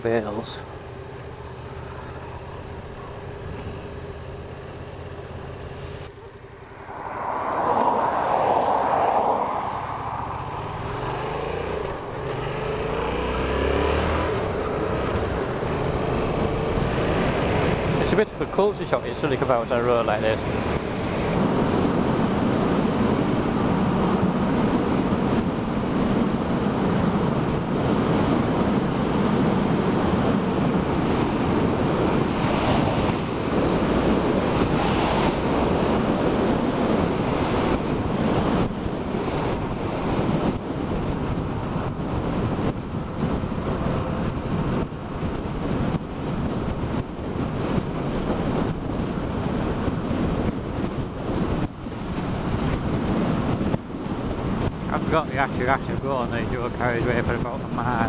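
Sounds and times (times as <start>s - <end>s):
wind roaring over microphone: 0.0s - 58.0s.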